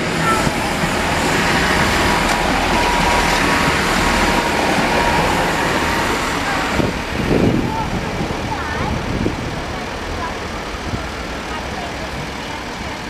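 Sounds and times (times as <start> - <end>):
diesel train engines: 0.0 - 13.0
train wheels rumbling on rail: 0.0 - 13.0.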